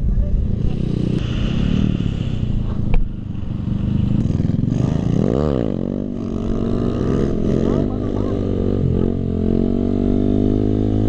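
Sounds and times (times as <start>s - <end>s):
motorcycle engine revving: 0.4s - 11.0s.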